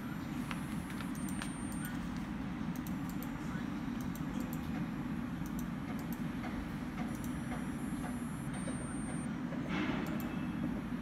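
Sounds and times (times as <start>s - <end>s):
printer whirring: 0.0s - 11.0s.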